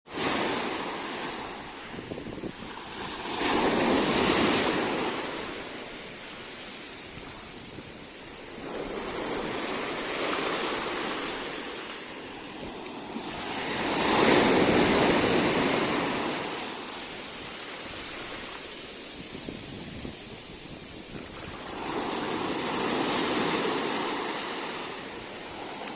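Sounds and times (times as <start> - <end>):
sea waves washing ashore: 0.0 - 25.9.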